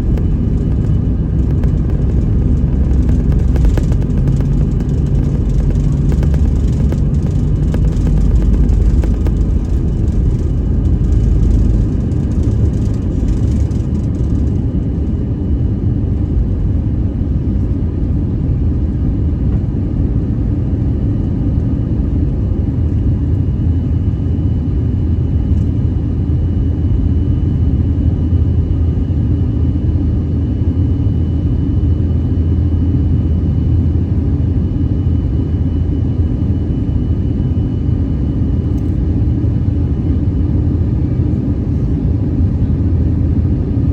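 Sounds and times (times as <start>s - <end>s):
jet engine cabin rumble: 0.0s - 43.9s.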